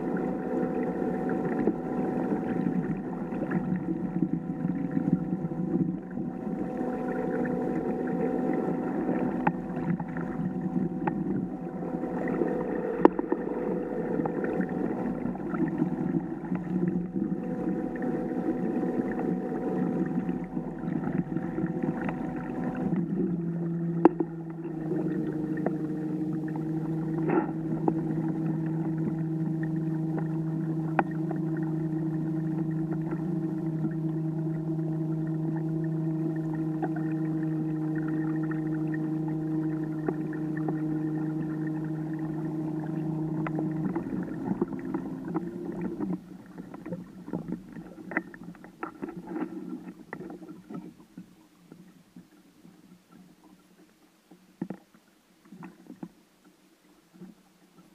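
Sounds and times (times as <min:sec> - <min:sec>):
electric motor whining hum: 0:00.0 - 0:51.0.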